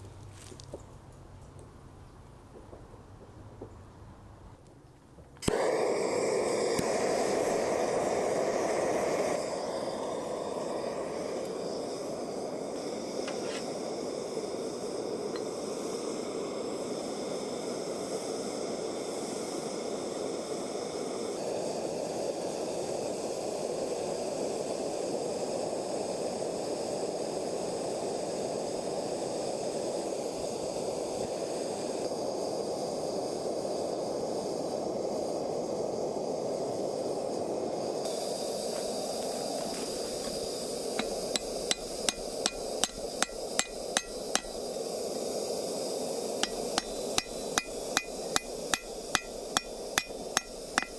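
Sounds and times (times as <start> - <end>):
gas torch flame roaring hiss: 0.0 - 50.9.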